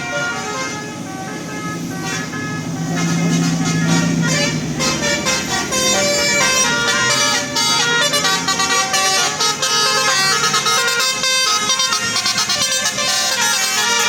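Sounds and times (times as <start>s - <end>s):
air horn playing tune: 0.0s - 14.0s.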